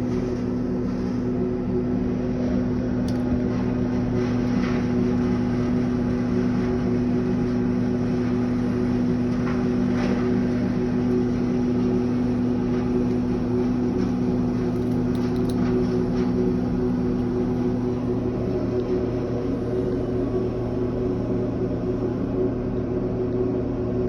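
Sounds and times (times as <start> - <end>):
engine droning steadily: 0.0 - 24.0.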